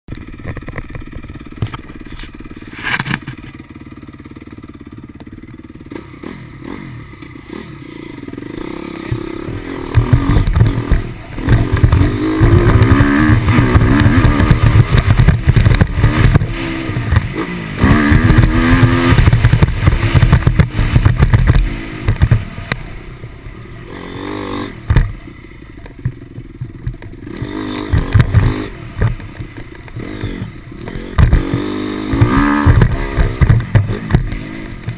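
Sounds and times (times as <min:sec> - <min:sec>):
motocross motorcycle engine revving: 0:00.1 - 0:34.9.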